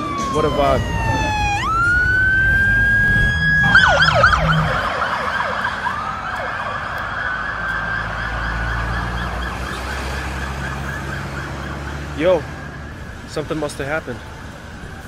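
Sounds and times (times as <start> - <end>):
police siren wailing and yelping: 0.0 - 15.0.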